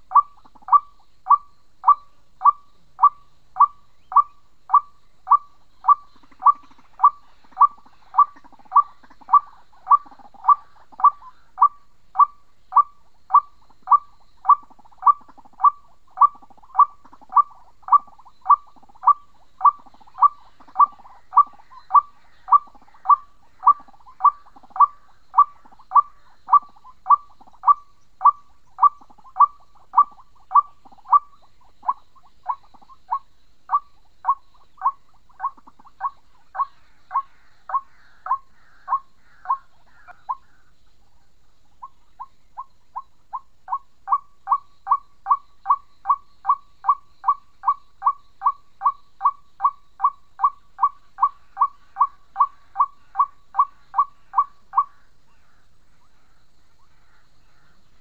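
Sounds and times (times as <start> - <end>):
waterhen hooting call: 0.0 - 40.6, 41.8 - 55.0.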